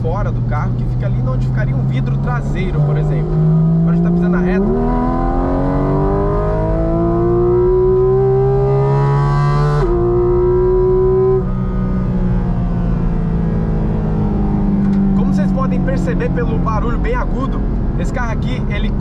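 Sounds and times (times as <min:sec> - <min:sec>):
car engine revving at full throttle: 0:00.0 - 0:19.0.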